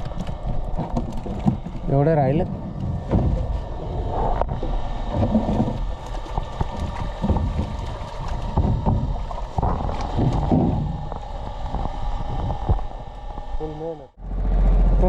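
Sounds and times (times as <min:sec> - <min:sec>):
wind buffeting microphone: 0:00.0 - 0:13.8
low rumble: 0:00.0 - 0:15.0.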